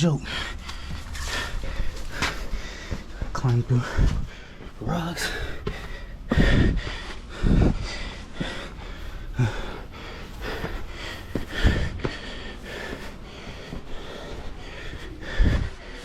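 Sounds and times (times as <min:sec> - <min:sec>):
person breathing hard: 0:00.0 - 0:16.0.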